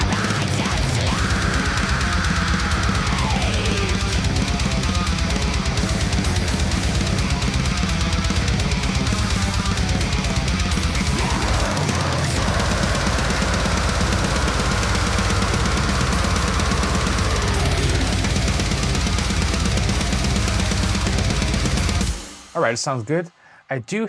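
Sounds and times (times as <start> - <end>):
bass guitar: 0.0 - 22.7
drum kit with kick drum: 0.0 - 22.7
distorted guitars: 0.0 - 24.0.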